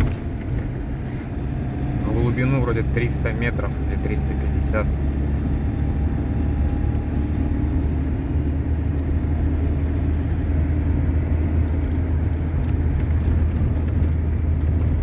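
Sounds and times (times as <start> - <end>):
road noise: 0.0 - 15.0
van engine drone: 0.0 - 15.0.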